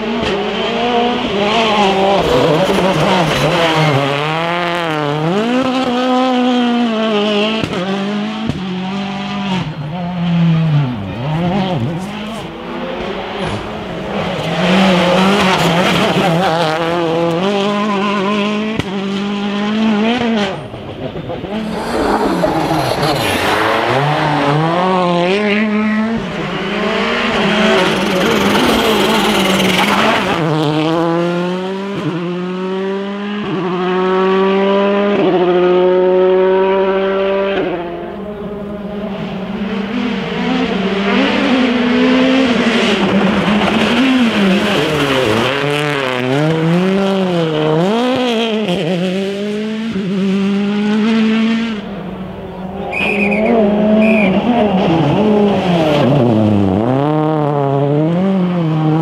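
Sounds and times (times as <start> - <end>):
rally cars passing at speed: 0.0 - 59.0.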